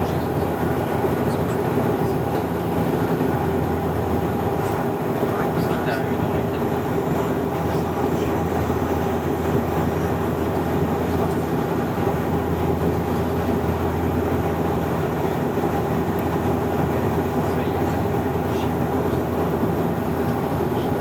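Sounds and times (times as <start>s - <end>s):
airliner cabin engine drone: 0.0s - 21.0s
constant low hum: 0.0s - 21.0s.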